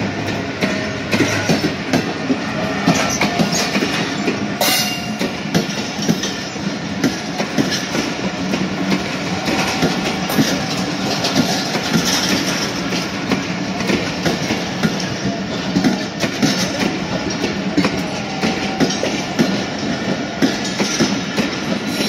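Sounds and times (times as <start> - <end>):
train rumble: 0.0 - 22.0
train wheels clacking on rails: 0.0 - 22.0.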